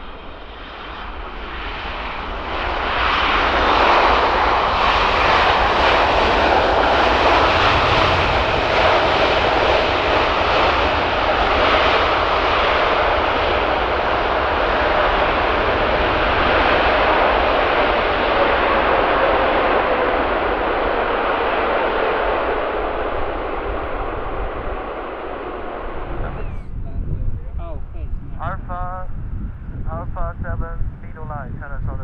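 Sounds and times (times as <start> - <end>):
jet engines spooling up: 0.0 - 27.2.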